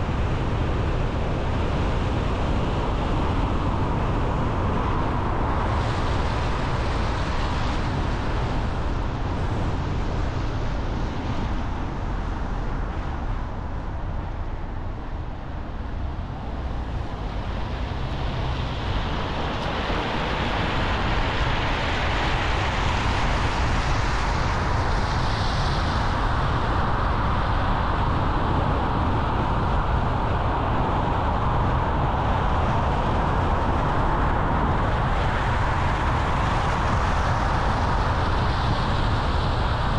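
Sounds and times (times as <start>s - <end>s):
car tyre and road noise: 0.0s - 39.9s.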